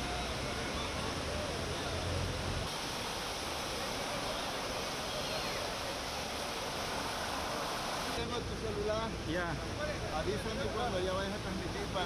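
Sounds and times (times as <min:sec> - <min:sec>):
floodwater rushing: 0:00.0 - 0:10.7.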